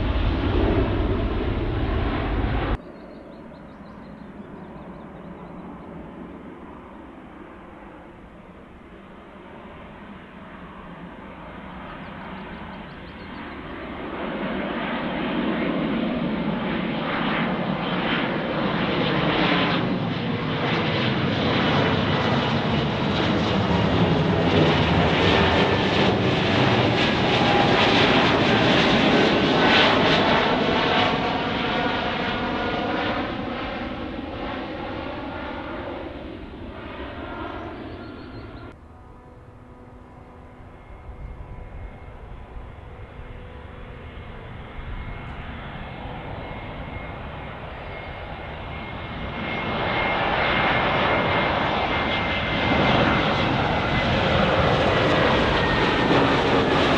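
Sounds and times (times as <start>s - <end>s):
jet airliner taking off: 0.0s - 56.9s.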